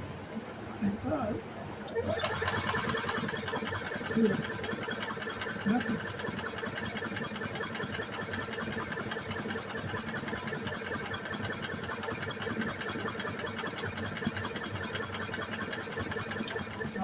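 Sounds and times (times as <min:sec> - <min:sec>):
engine cranking without starting: 0:01.9 - 0:17.0.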